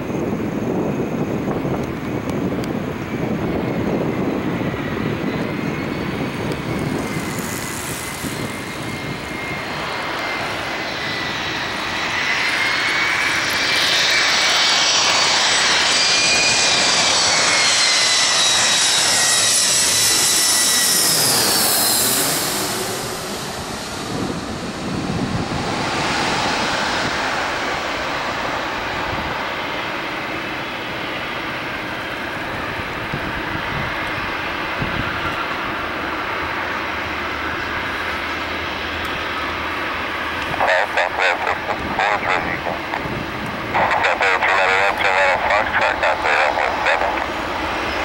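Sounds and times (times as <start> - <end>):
jet engines whining at takeoff: 0.0 - 48.0.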